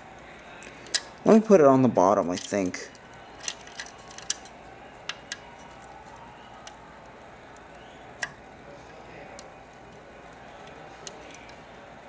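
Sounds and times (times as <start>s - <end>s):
small plastic parts clicking: 0.6s - 1.3s, 2.3s - 11.8s.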